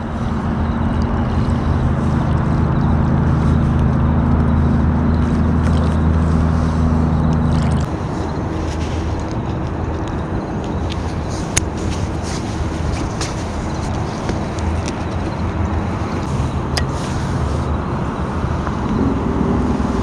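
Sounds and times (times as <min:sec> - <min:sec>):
low engine drone: 0:00.0 - 0:20.0
wind and water hiss: 0:00.0 - 0:20.0.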